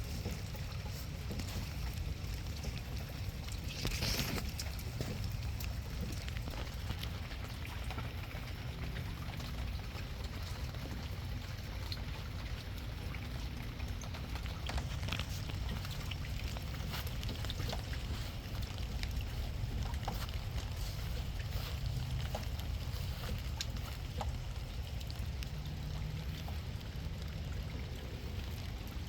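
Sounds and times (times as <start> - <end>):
rain falling: 0.0 - 29.0
raindrops ticking: 0.0 - 29.0.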